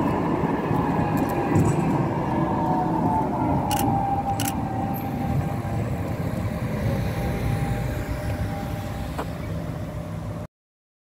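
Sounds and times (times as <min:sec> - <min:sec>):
tram rumbling on track: 0:00.0 - 0:10.5.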